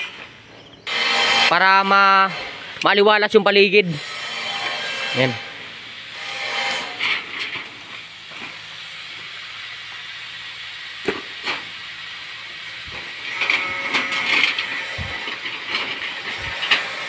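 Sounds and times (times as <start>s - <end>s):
metal roofing sheets scraping: 0.0s - 2.8s, 4.0s - 9.2s, 11.1s - 17.0s.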